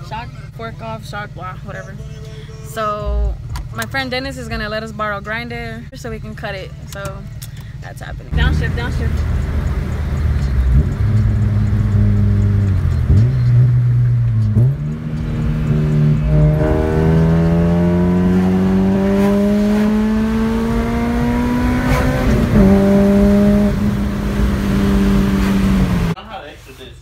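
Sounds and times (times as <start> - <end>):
car engine accelerating: 0.0 - 26.2.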